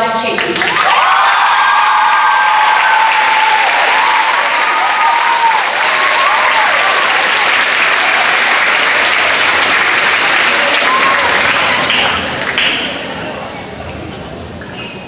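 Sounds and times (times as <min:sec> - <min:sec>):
audience applauding: 0:00.4 - 0:13.2.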